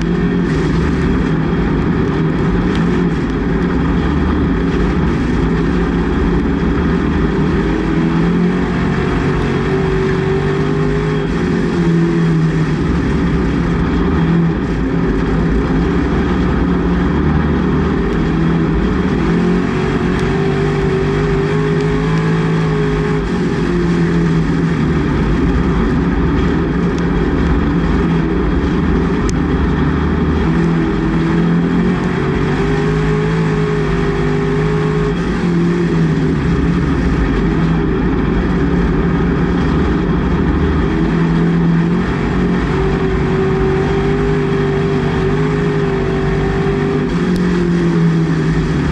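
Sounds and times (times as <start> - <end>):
race car engine: 0.0 - 48.9.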